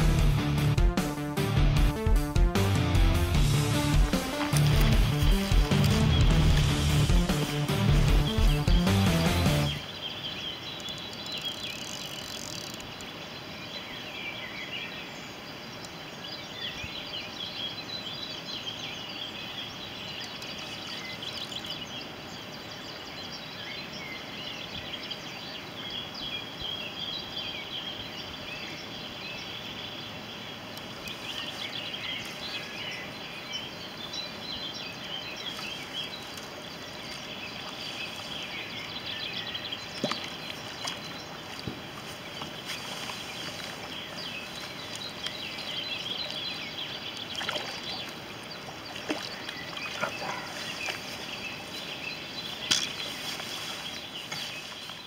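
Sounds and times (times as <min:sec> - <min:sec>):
outdoor background hiss: 0:00.0 - 0:55.0
small birds chirping: 0:03.4 - 0:55.0.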